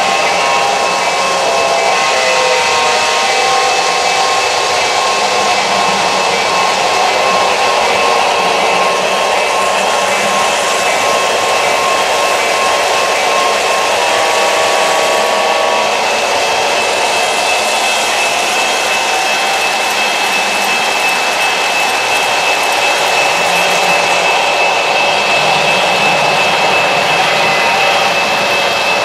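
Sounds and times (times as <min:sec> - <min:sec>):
electric motor whine: 0:00.0 - 0:29.0
model train wheels on rails: 0:00.0 - 0:29.0
steady tones: 0:00.0 - 0:29.0.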